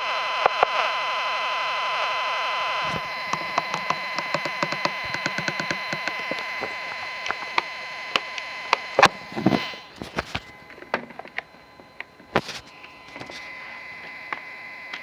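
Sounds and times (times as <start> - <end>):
electronic tone with buzzing warble: 0.0 - 15.0
radio clicks: 0.4 - 1.0, 1.9 - 15.0.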